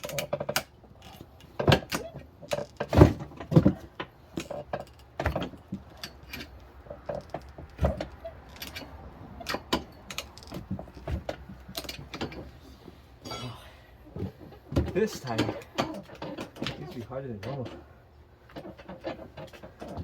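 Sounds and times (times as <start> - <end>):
tire iron clanking and scraping: 0.0 - 20.0.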